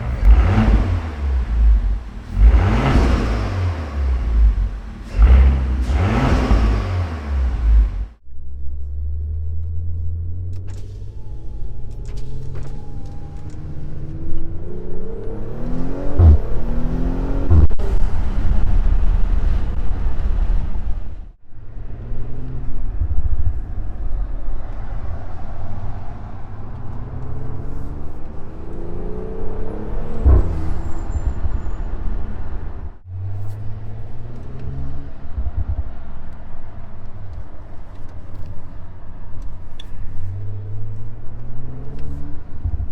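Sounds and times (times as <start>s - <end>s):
car engine revving: 0.0s - 42.9s
exhaust cracks: 0.0s - 42.9s.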